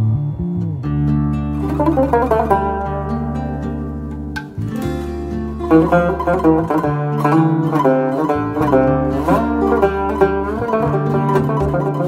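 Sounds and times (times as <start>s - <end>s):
low bass line: 0.0s - 12.0s
plucked string melody: 0.1s - 12.0s.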